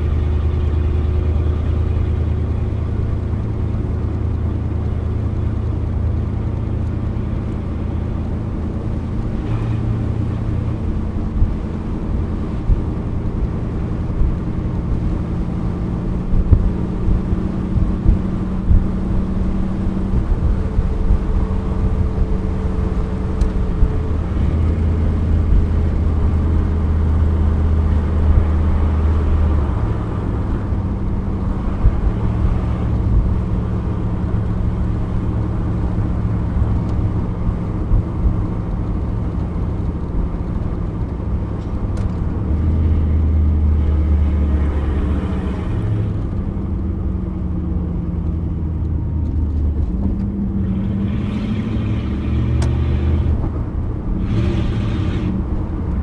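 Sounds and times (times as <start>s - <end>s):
car engine drone: 0.0s - 56.0s
tyre and road noise: 0.0s - 56.0s.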